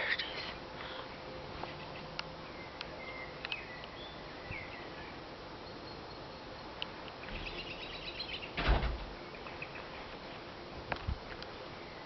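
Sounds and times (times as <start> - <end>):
small birds chirping: 0.0 - 10.6, 11.2 - 12.0.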